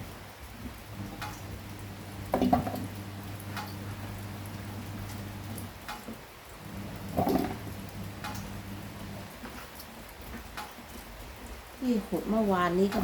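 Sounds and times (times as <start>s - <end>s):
rain drops ticking: 0.0s - 13.0s.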